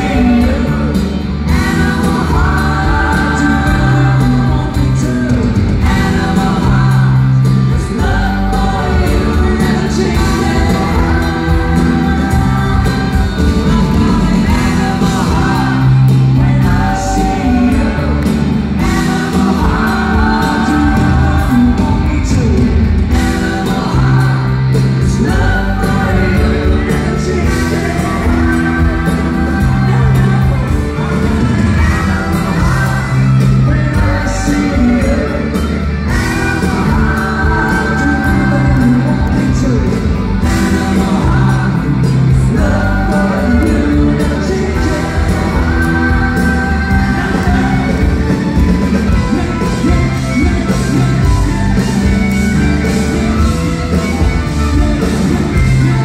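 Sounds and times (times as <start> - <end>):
man singing into microphone: 0.0 - 53.6
electric guitar: 0.0 - 56.0
live pop-rock band playing: 0.0 - 56.0.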